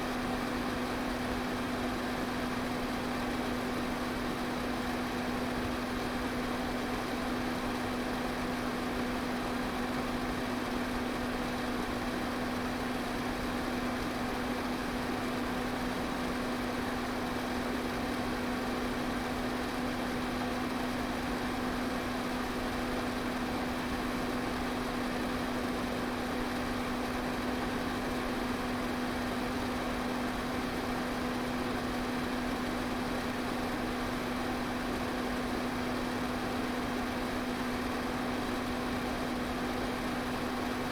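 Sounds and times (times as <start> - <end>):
electric fan running: 0.0 - 40.9.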